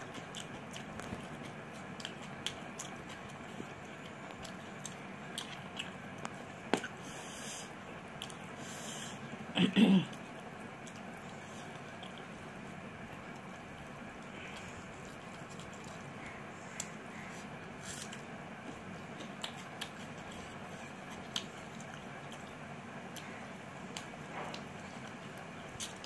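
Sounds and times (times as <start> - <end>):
chewing: 0.0 - 7.0, 8.1 - 8.6, 10.0 - 26.0.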